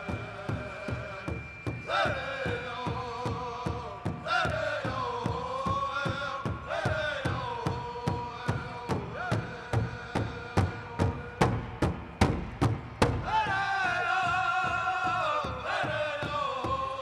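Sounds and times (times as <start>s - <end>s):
group singing high voices: 0.0s - 12.0s, 13.1s - 17.0s
big drum beating: 2.5s - 17.0s.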